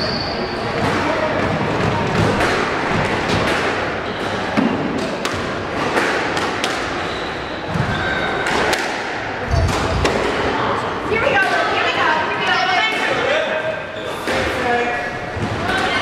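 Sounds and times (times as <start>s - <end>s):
squash ball hitting rackets and walls: 0.7s - 16.0s.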